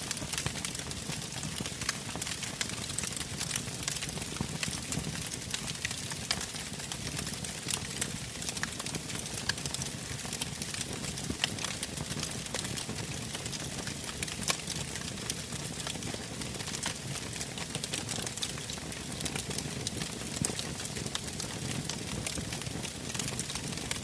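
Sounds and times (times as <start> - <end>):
campfire crackling and popping: 0.0 - 24.0
low rumble of burning wood: 0.0 - 24.0.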